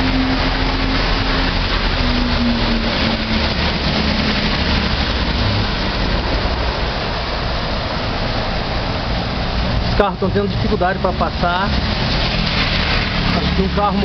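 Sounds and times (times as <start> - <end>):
car engines running low: 0.0 - 14.0
heavy rain: 0.0 - 14.0
running floodwater: 0.0 - 14.0.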